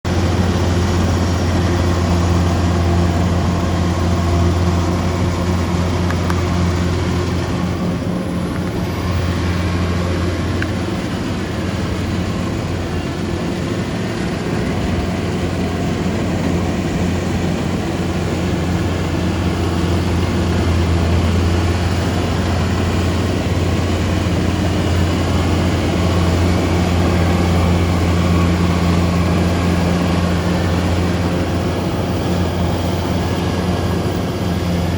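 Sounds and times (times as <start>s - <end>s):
harvesting machine engine droning: 0.1s - 34.9s.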